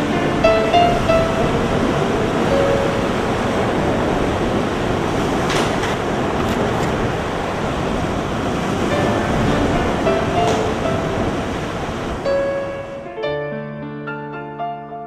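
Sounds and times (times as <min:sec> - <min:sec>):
ocean surf on rocky shore: 0:00.0 - 0:13.2.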